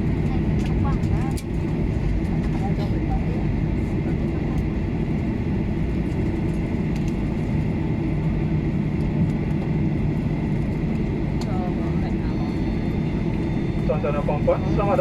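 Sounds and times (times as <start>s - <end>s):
airliner engine rumble in cabin: 0.0s - 15.0s.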